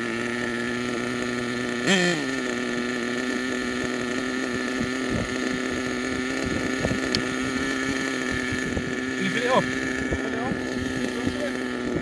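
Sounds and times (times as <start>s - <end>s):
small nitro engine idling: 0.0s - 12.0s.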